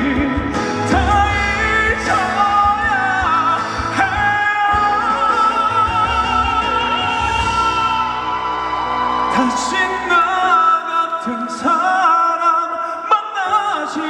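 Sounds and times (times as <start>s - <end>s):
band accompaniment: 0.0s - 12.0s
person singing ballad: 0.0s - 14.0s.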